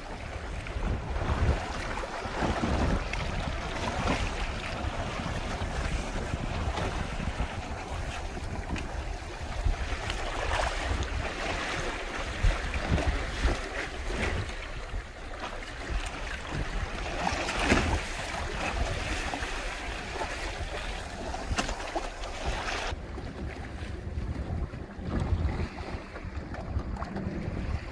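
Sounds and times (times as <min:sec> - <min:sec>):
water splashing against hull: 0:00.0 - 0:27.9
wind buffeting microphone: 0:00.0 - 0:27.9.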